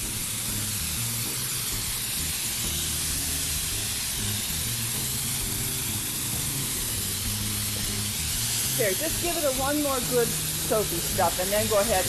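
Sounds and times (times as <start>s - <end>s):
pressure washer water jet hissing: 0.0s - 12.0s.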